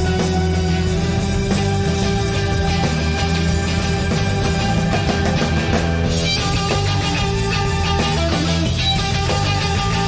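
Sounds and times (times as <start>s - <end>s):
live rock band instrumental: 0.0s - 10.0s.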